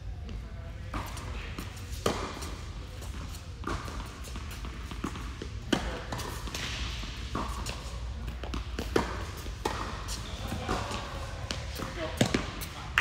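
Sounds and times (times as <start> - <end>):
tennis balls bouncing: 0.9 - 13.0
tennis balls hit by racquets: 0.9 - 13.0.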